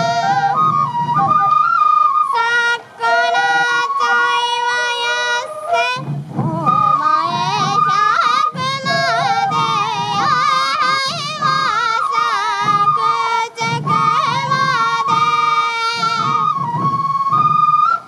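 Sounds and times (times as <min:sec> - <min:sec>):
taiko drums beating: 0:00.0 - 0:02.3, 0:05.6 - 0:18.0
high wavering melody: 0:00.0 - 0:18.0.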